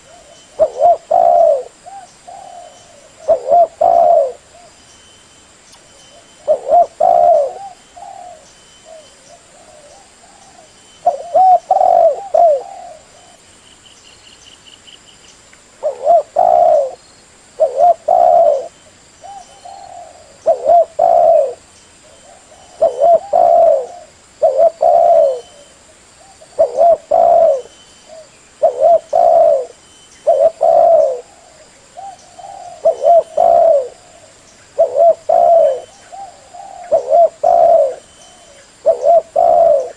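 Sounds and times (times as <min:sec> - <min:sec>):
dove cooing: 0:00.0 - 0:04.8, 0:06.1 - 0:13.4, 0:15.8 - 0:17.0, 0:17.6 - 0:39.9.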